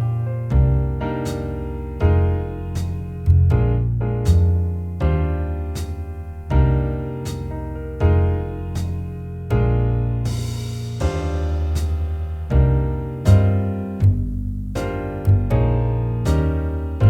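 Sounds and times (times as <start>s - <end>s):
bass line: 0.0s - 17.0s
piano chords: 0.0s - 17.0s.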